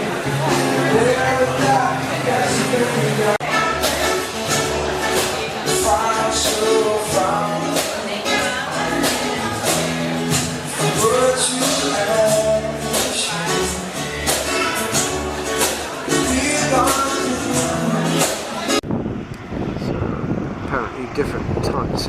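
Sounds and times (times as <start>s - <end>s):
music with a steady beat: 0.0s - 18.8s
sung melodic line: 0.0s - 18.8s.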